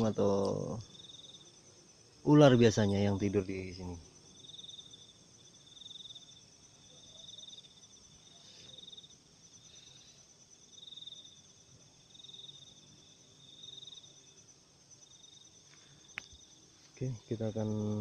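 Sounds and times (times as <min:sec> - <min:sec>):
cricket pulsed trill: 0:00.0 - 0:18.0
high-pitched insect chorus: 0:00.0 - 0:18.0.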